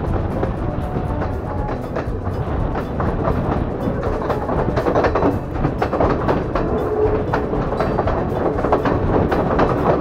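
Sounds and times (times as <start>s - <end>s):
carriages rumbling and rattling: 0.0s - 10.0s
train wheels clattering over rails: 0.0s - 10.0s.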